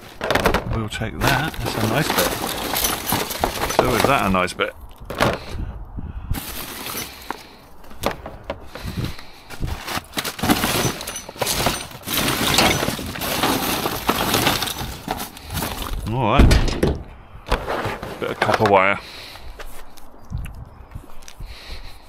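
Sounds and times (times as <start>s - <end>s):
scrap metal clattering and clinking: 0.0s - 5.6s, 6.4s - 18.9s.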